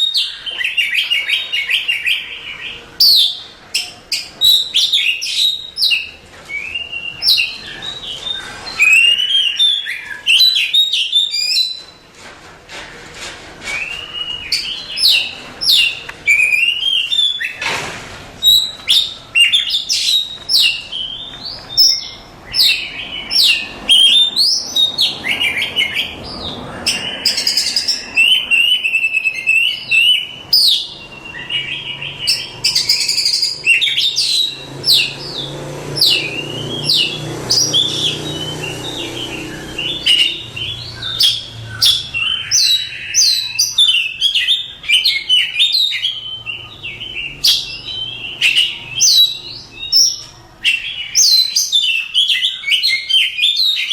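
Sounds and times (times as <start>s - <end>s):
bird singing whistled song: 0.0s - 12.0s, 13.7s - 17.6s, 18.4s - 26.2s, 26.8s - 53.9s.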